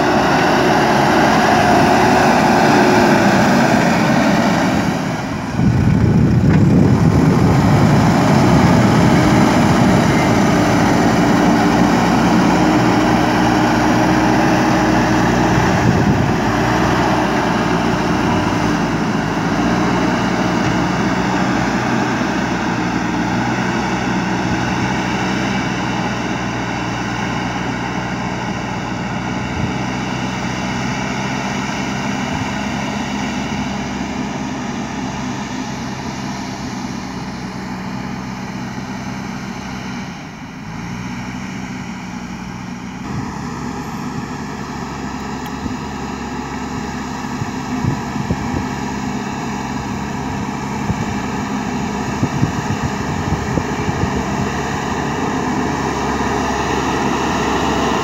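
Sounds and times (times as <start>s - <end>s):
backhoe diesel engine running: 0.0s - 58.0s.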